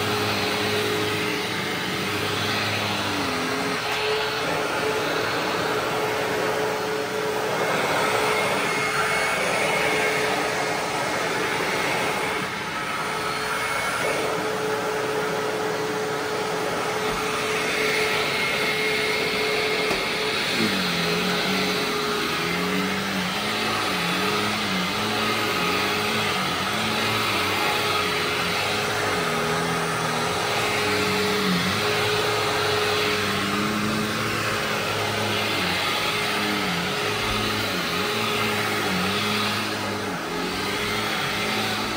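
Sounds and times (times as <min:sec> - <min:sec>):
vacuum cleaner whining: 0:00.0 - 0:41.9.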